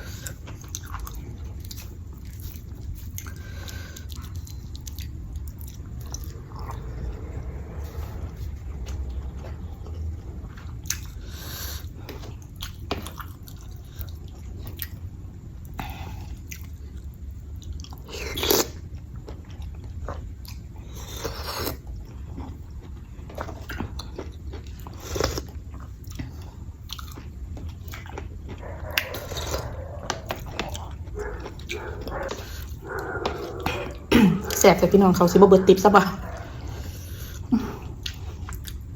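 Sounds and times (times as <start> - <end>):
person chewing and smacking: 0.0 - 6.6, 8.9 - 34.1, 36.2 - 38.9
low steady hum: 0.0 - 38.9.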